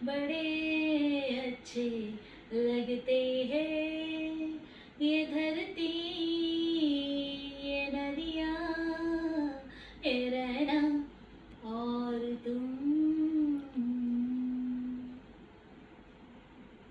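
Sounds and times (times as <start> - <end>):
woman singing unaccompanied: 0.0 - 15.3.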